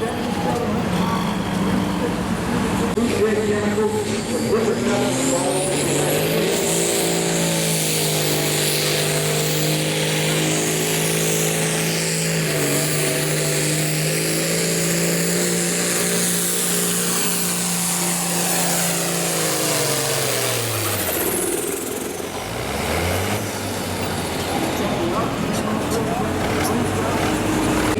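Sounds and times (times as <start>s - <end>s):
tractor diesel engine at full throttle: 0.0s - 27.9s.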